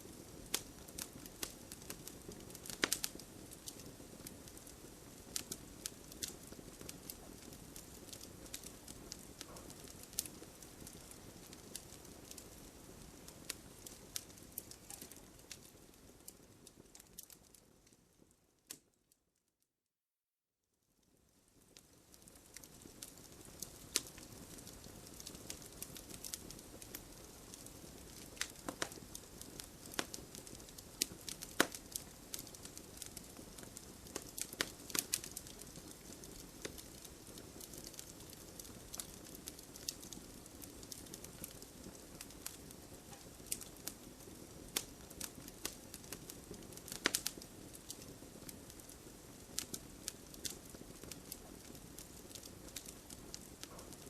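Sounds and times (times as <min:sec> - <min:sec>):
campfire crackling: 0:00.0 - 0:18.9, 0:21.1 - 0:54.0
fire popping and snapping: 0:00.0 - 0:18.9, 0:21.1 - 0:54.0.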